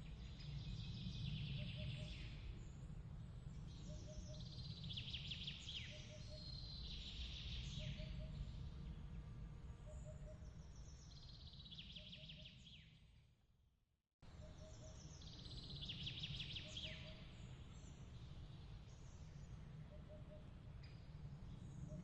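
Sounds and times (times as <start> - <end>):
birdsong: 0.0 - 13.0, 14.4 - 22.0.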